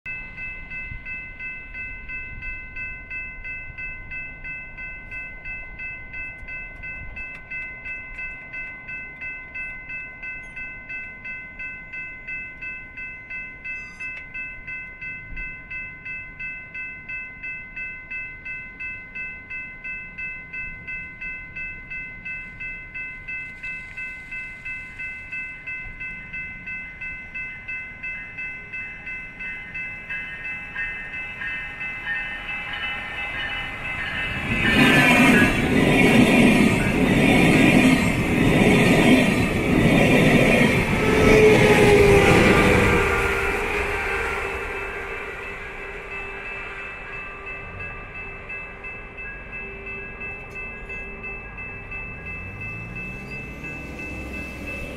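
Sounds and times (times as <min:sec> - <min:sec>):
level crossing bell ringing: 0:00.0 - 0:54.9.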